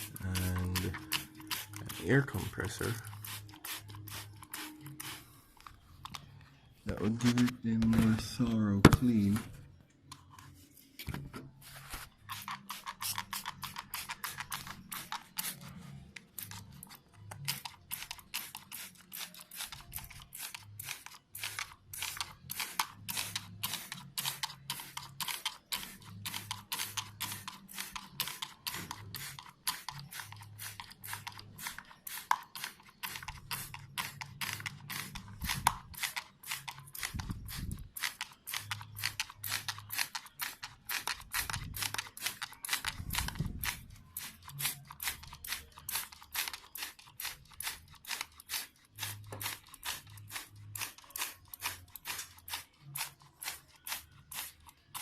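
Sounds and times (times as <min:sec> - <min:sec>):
trigger spray bottle squirting: 0:00.0 - 0:05.2, 0:12.3 - 0:15.6, 0:17.3 - 0:55.0.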